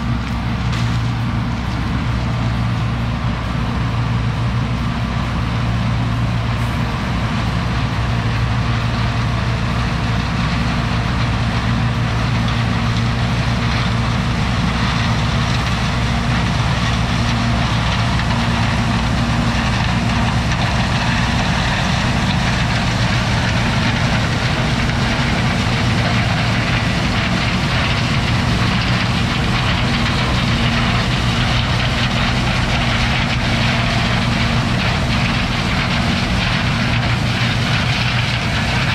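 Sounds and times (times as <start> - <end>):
combine harvester diesel drone: 0.0 - 38.9.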